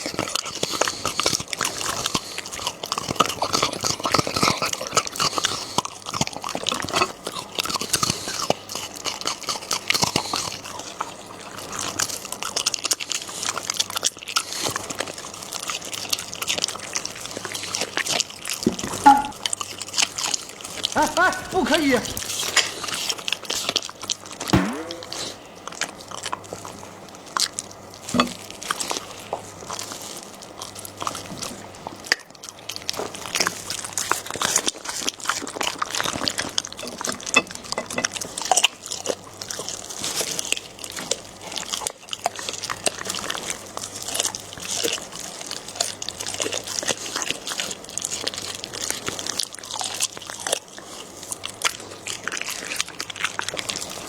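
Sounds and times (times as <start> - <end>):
dog chewing and crunching bone: 0.0 - 24.5, 25.2 - 54.0.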